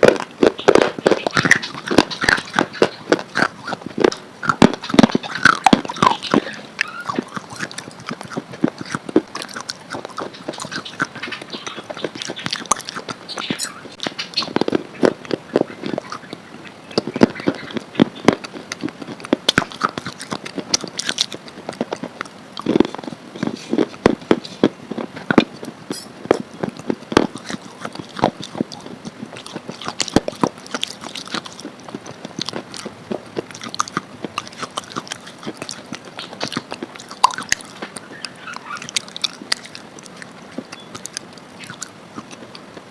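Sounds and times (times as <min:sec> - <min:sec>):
person chewing: 0:00.0 - 0:42.9.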